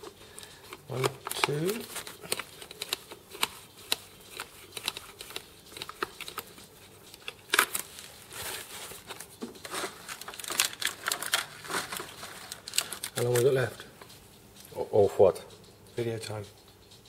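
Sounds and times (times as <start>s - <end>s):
plastic parts clicking and rustling: 0.0s - 14.2s.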